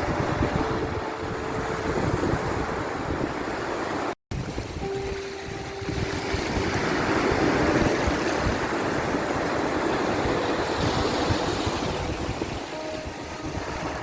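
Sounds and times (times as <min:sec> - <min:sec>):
sea waves breaking: 0:00.0 - 0:14.0.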